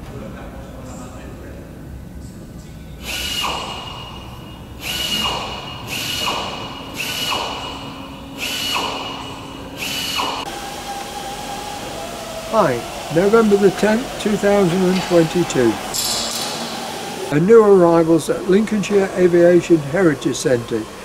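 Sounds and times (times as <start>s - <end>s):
power tool whine bursts: 3.0s - 21.0s.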